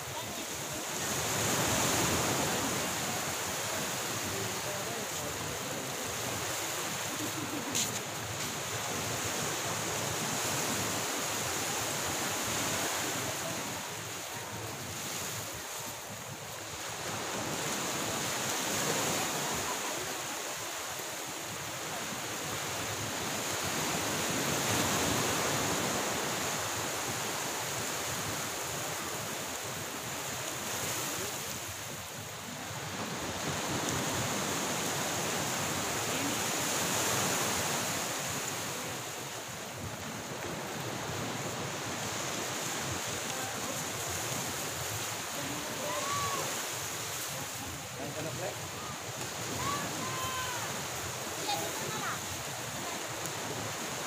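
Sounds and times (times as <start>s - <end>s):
waves washing in: 0.0s - 54.0s.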